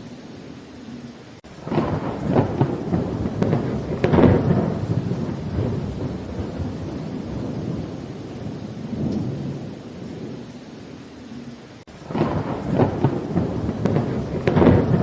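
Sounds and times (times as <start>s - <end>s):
steady rain: 0.0s - 15.0s
thunderclap rumbling: 1.4s - 10.9s, 11.8s - 15.0s.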